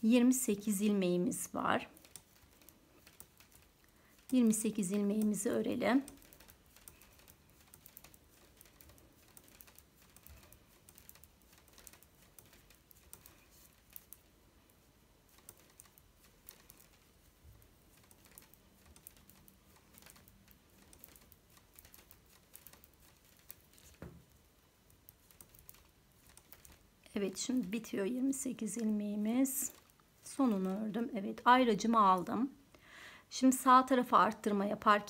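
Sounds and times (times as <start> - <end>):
knitting needles clicking: 0.0 - 32.8.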